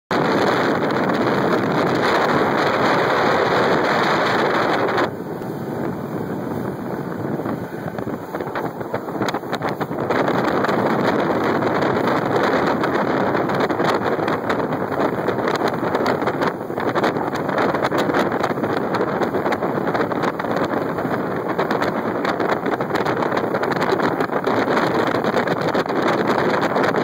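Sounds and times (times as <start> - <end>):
boat rushing through water: 0.1 - 27.0
wind buffeting microphone: 0.1 - 27.0.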